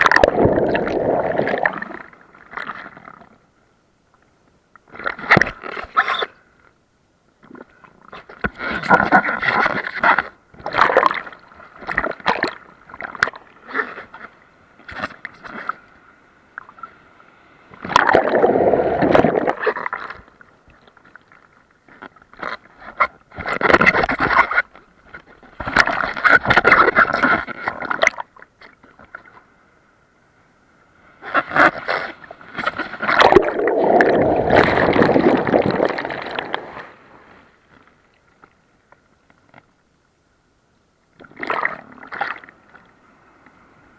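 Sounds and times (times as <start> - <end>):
water splashing and sloshing: 0.0 - 3.4, 7.4 - 29.6, 31.0 - 39.8, 41.1 - 43.8.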